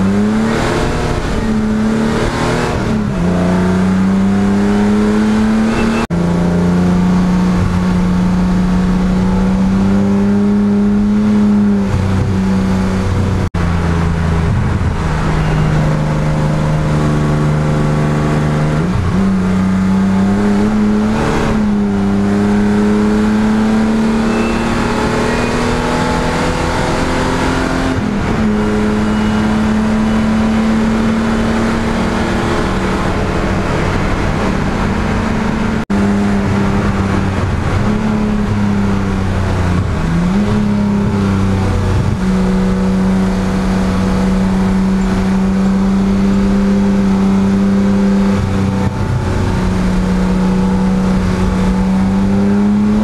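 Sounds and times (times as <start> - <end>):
car engine under hard driving: 0.0 - 53.0.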